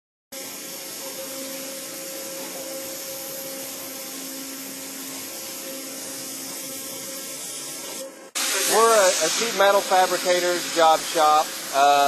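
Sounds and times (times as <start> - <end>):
waterjet hissing: 0.3 - 12.0.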